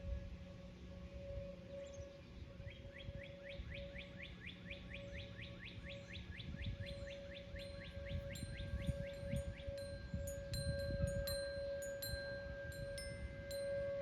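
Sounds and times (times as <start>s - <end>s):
distant warning siren: 0.0s - 14.0s
wind rumble on microphone: 0.0s - 14.0s.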